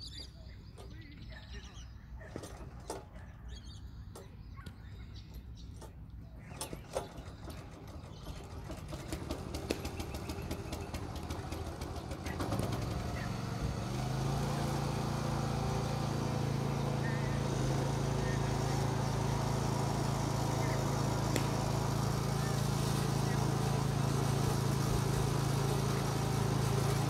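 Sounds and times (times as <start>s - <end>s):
roller engine starting up: 0.7s - 4.3s, 5.7s - 27.0s.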